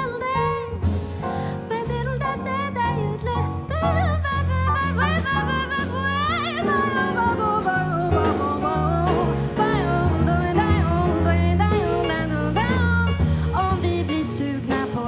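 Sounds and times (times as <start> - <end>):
woman singing with vibrato: 0.0 - 0.8, 1.5 - 15.0
piano: 0.0 - 15.0
walking electric bass: 0.0 - 15.0.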